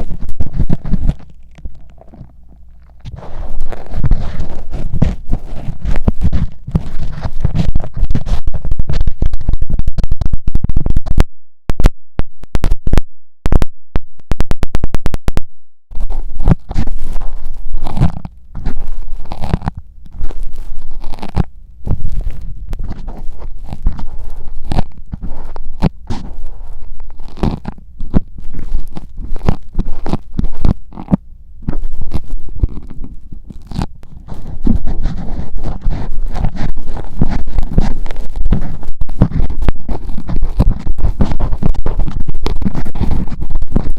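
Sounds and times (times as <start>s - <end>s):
ear pick scraping microphone: 0.0s - 43.9s.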